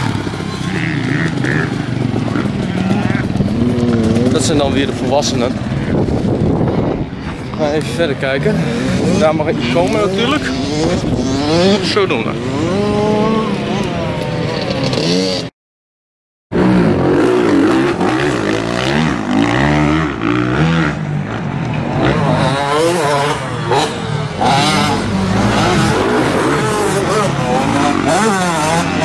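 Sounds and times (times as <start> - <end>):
motocross bike engines revving: 0.0 - 15.5, 16.6 - 29.0.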